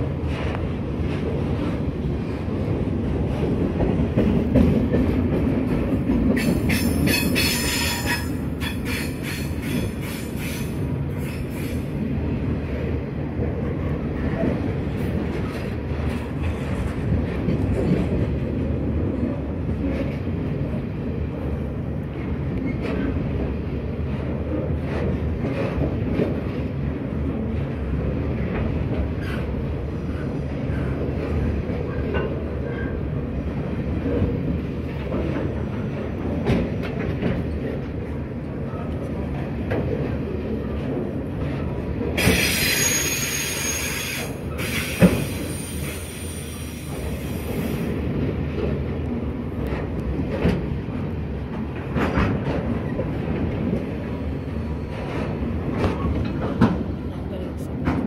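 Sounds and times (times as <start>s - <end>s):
train wagons rolling past: 0.0s - 58.0s.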